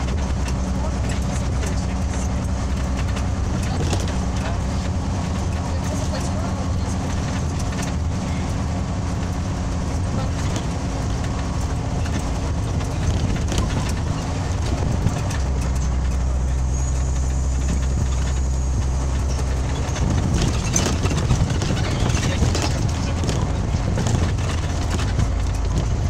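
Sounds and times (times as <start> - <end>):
bus engine drone: 0.0 - 26.0
rattling clatter: 0.0 - 26.0
road noise: 0.0 - 26.0.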